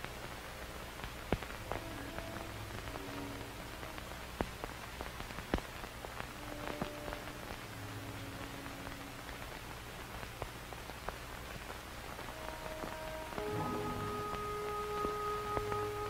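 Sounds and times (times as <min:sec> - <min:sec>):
crackling clicks: 0:00.0 - 0:16.0
faint held musical notes: 0:00.0 - 0:16.0
steady hiss: 0:00.0 - 0:16.0.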